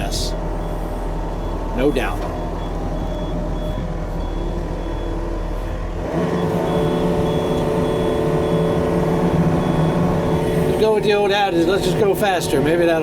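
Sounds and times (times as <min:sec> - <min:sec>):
reversing alarm beeping: 0:00.0 - 0:12.9
diesel engine throttling up: 0:00.0 - 0:13.0.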